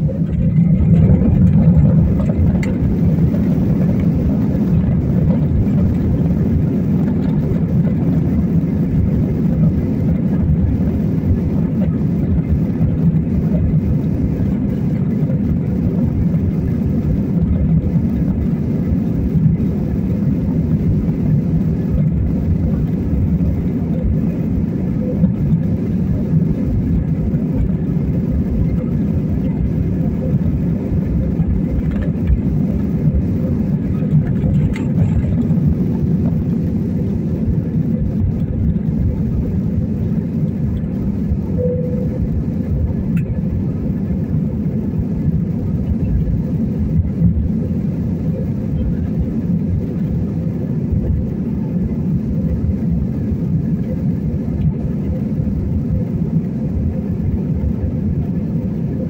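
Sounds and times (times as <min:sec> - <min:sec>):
jet engines at takeoff power: 0:00.0 - 0:59.0
wheels rolling on runway: 0:00.0 - 0:59.0.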